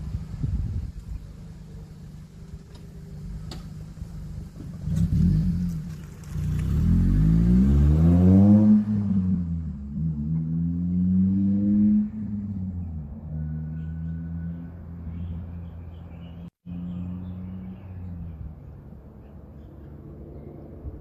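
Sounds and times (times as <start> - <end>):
car engine rumbling and revving: 0.0 - 21.0.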